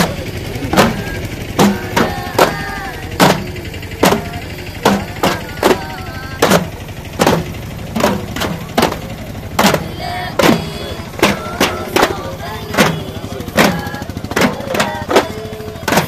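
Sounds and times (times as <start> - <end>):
frame drums beating: 0.0 - 16.0
voices chanting in unison: 0.0 - 16.0.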